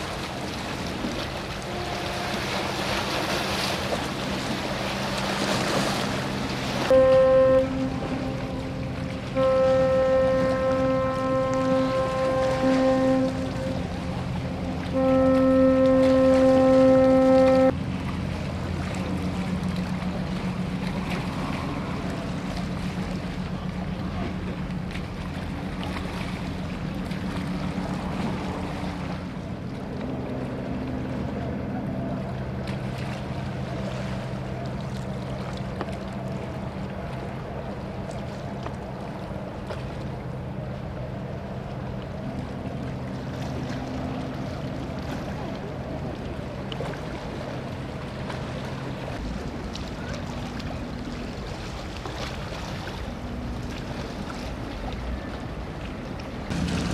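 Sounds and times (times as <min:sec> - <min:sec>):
ship engine droning: 0:00.0 - 0:56.9
water washing: 0:00.0 - 0:56.9
wind: 0:00.0 - 0:56.9.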